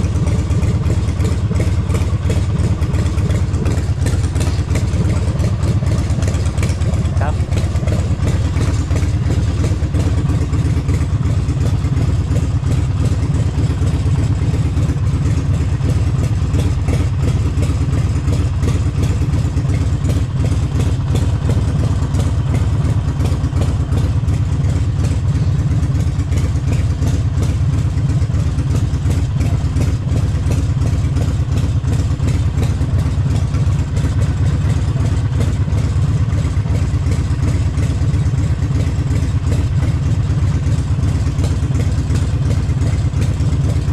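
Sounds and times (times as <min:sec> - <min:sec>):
motorcycle engine running steadily: 0:00.0 - 0:43.9.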